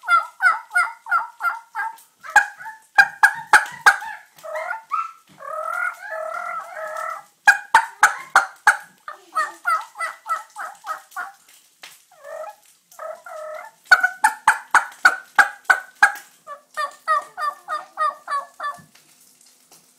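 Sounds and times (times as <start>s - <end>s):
man imitating turkey calls: 0.0s - 11.4s, 12.1s - 18.9s.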